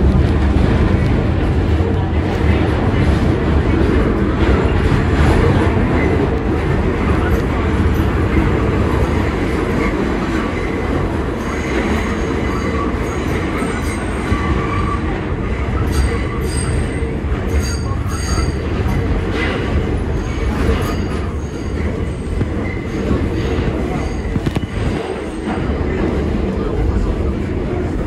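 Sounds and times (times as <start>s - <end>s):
subway wheels rumbling on track: 0.0s - 28.0s.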